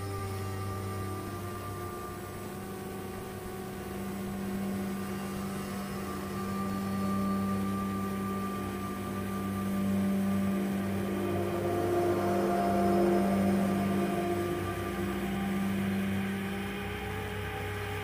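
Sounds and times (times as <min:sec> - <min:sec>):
ambient droning music: 0:00.0 - 0:18.0.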